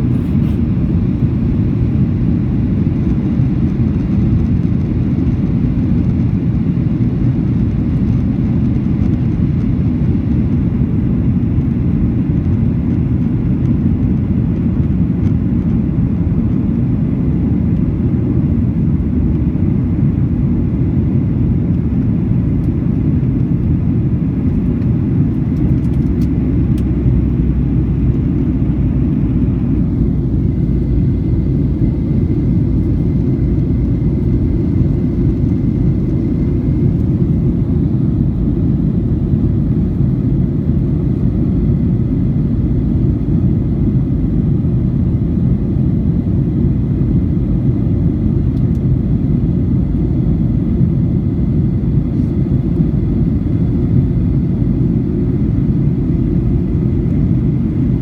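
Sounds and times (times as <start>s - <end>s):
jet engine cabin rumble: 0.0s - 58.0s.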